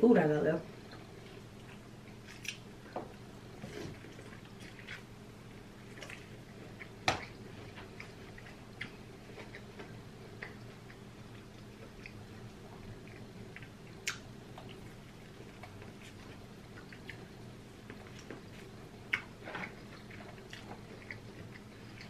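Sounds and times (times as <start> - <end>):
steady low hum: 0.0 - 22.0
chewing and wet mouth sounds: 0.8 - 22.0.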